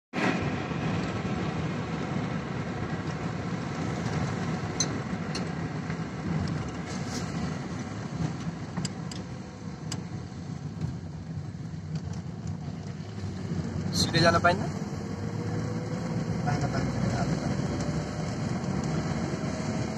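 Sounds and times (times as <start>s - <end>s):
vehicle engine and road rumble: 0.1s - 19.9s.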